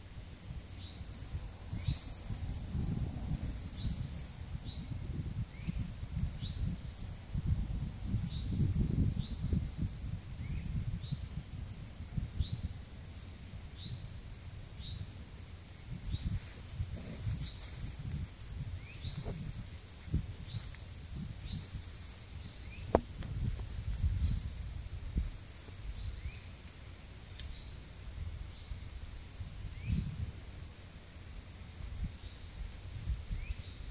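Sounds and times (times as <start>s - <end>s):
insect chorus: 0.0s - 33.9s.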